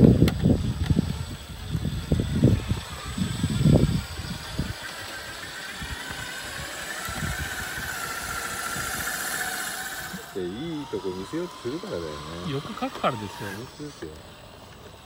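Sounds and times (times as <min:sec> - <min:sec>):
electric motor and gear whine: 0:00.0 - 0:15.0.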